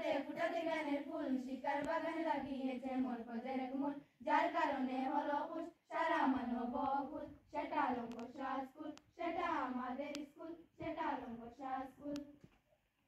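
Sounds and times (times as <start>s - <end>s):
children singing in unison: 0.0s - 12.4s.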